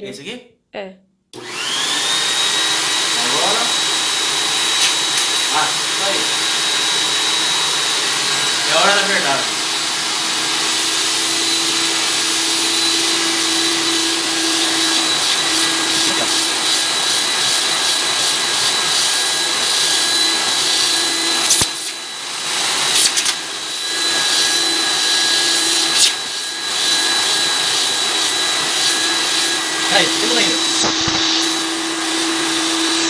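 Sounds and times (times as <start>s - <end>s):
vacuum motor whine: 1.4s - 33.0s.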